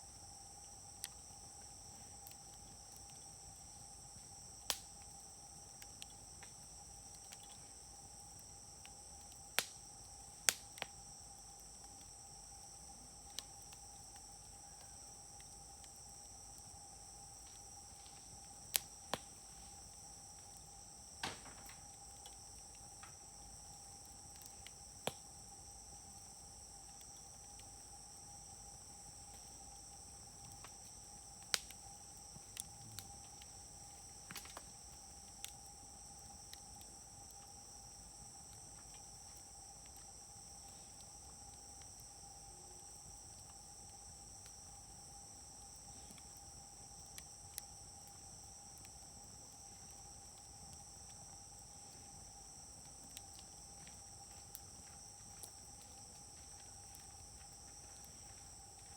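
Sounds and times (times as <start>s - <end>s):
night insects chirping: 0.0s - 58.9s
wood fire crackling: 0.0s - 58.9s.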